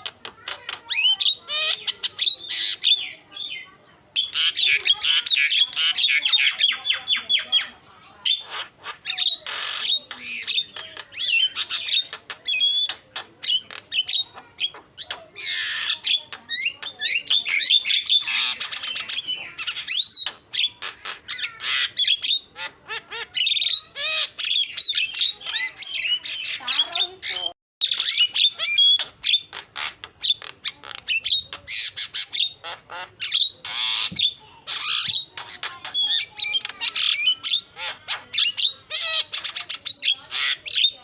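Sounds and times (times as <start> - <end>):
myna bird chattering: 0.0 - 41.0.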